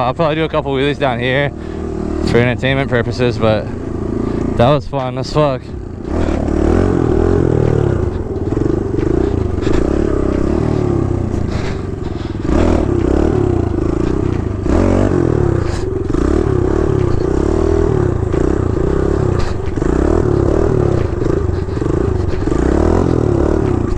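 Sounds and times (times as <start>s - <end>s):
dirt bike engine running: 0.0s - 23.9s.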